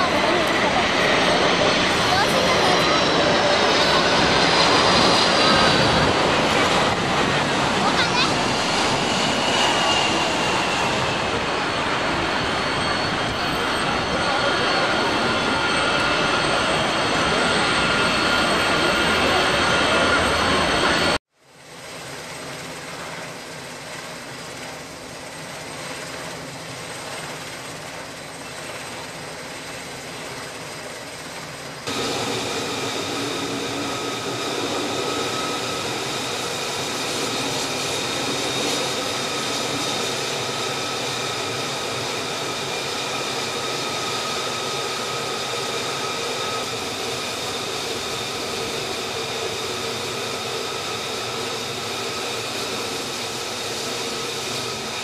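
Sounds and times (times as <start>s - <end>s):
jet engine turbine whine: 0.0s - 55.0s.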